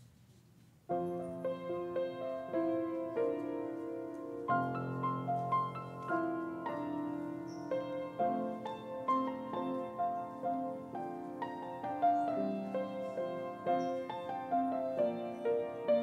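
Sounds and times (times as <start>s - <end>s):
slow solo piano: 0.8s - 16.0s.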